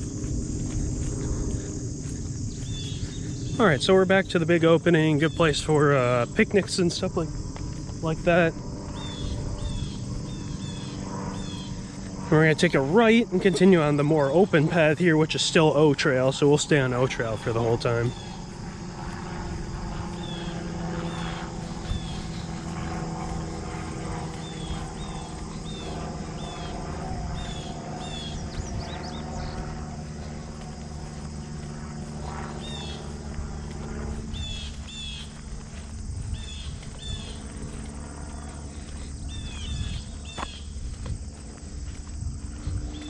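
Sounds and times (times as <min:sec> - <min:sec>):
birds chirping: 0:00.0 - 0:07.3, 0:08.0 - 0:43.0
insects droning: 0:00.0 - 0:43.0
low hum: 0:00.0 - 0:43.0.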